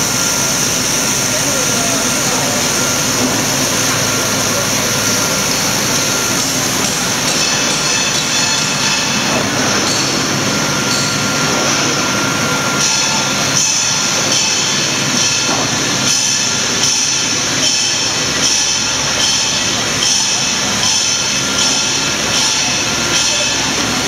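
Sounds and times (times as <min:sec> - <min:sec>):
industrial machine running: 0:00.0 - 0:24.0.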